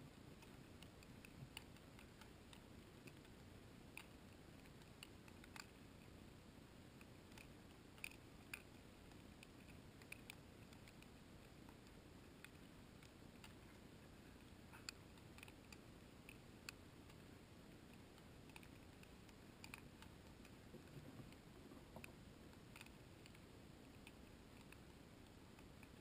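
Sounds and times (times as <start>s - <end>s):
faint hiss: 0.0s - 26.0s
soft clicks: 0.1s - 6.2s, 7.0s - 26.0s.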